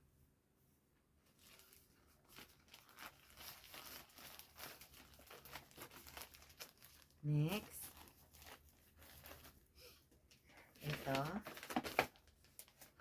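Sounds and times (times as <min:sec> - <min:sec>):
gift packaging crinkling: 0:01.2 - 0:13.0.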